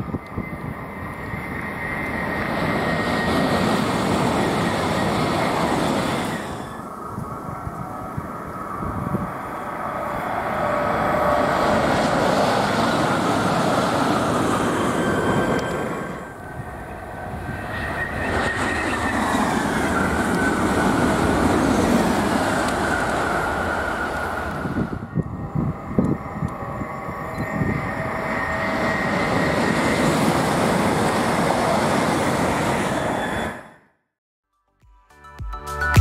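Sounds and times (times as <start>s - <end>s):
train wheels rumbling on rail: 0.0s - 33.7s
high train whine: 0.0s - 34.1s.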